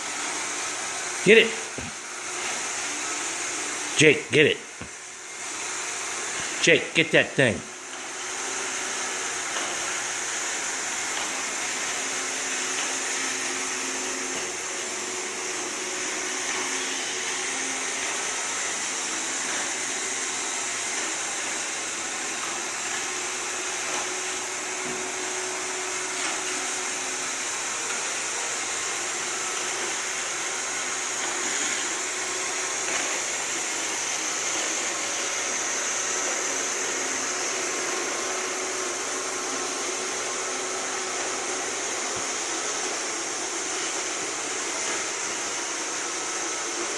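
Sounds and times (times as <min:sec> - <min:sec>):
robot vacuum running: 0:04.6 - 0:06.6, 0:07.7 - 0:46.9.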